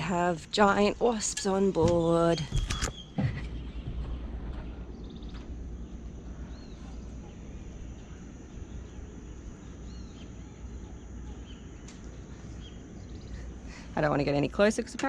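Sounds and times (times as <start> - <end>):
constant high hiss: 0.0 - 15.0.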